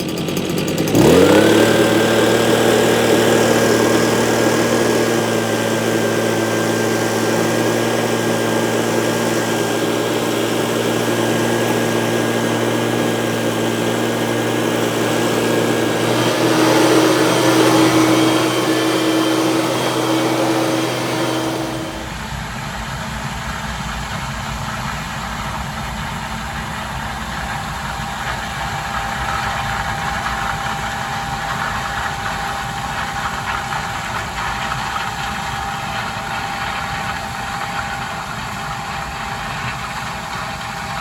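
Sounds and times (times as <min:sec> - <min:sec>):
leaf blower running: 0:00.0 - 0:23.9, 0:27.1 - 0:41.0.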